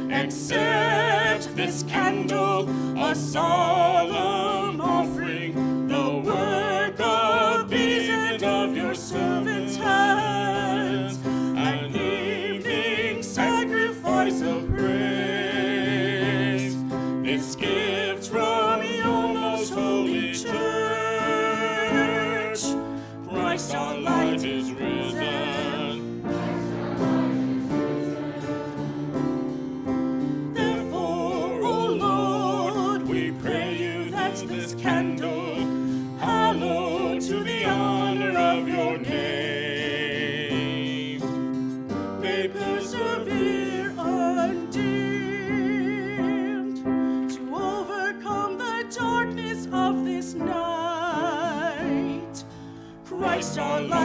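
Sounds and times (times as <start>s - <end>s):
singers with vibrato voices: 0.0s - 29.6s, 30.4s - 54.0s
held keyboard chords: 0.0s - 54.0s.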